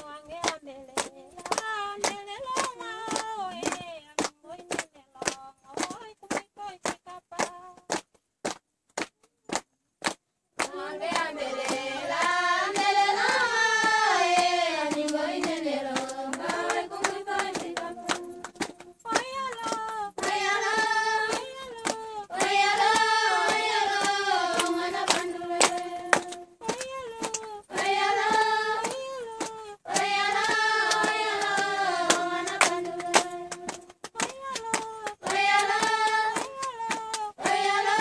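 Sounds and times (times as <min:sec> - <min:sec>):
women singing: 0:00.0 - 0:07.8, 0:10.6 - 0:38.0
hand claps: 0:00.0 - 0:38.0.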